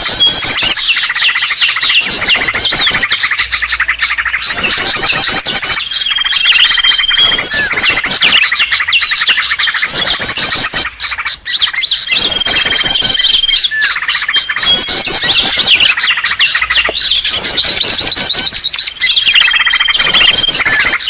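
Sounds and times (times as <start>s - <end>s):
birds chirping and trilling: 0.0s - 21.0s.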